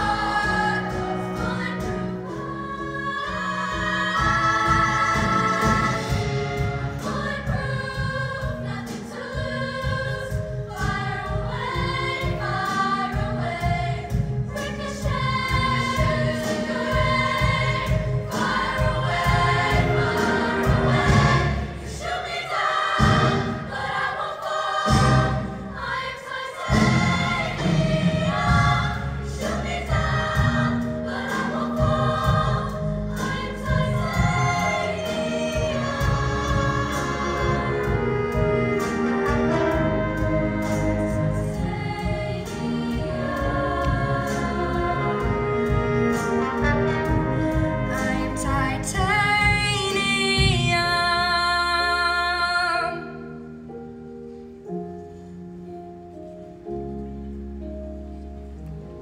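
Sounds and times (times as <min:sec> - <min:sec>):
choir singing upbeat song: 0:00.0 - 0:50.8.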